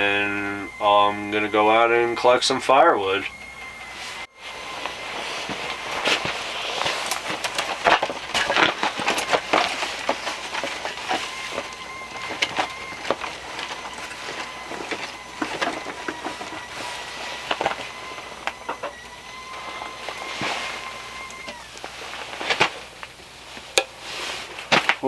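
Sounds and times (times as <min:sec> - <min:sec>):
kettle whistling: 0:00.0 - 0:25.0
clicks and crackles: 0:03.2 - 0:25.0.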